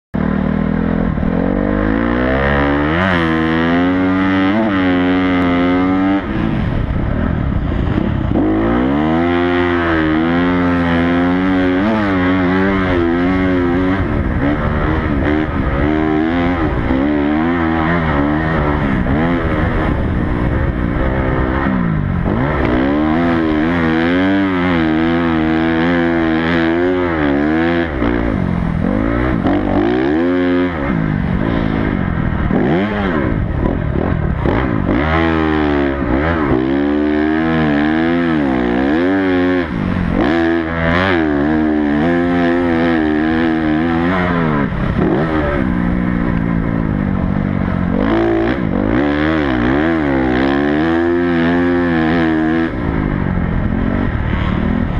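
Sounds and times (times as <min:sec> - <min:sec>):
motocross bike engine revving: 0:00.2 - 0:54.9.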